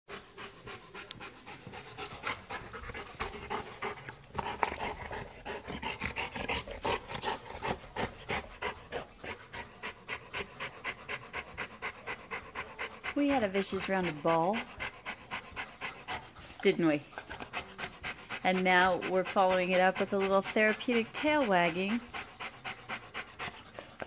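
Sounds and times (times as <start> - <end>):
dog panting rapidly: 0.1 - 24.0.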